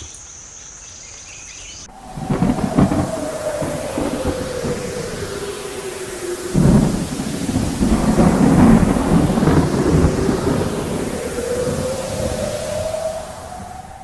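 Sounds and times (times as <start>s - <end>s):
steady rain: 1.8s - 14.0s
thunder clap and rumble: 1.9s - 14.0s.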